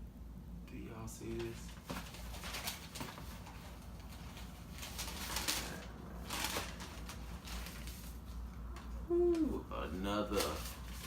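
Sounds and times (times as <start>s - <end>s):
paper and packaging rustling: 1.3s - 11.0s.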